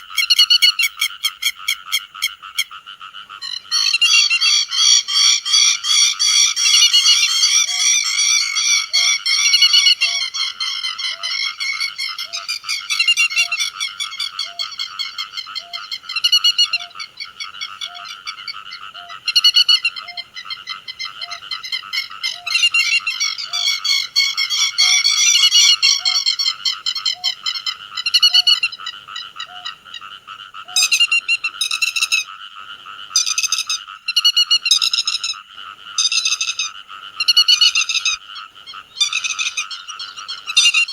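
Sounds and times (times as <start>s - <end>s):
lapwings calling: 3.4s - 32.3s, 36.0s - 40.9s.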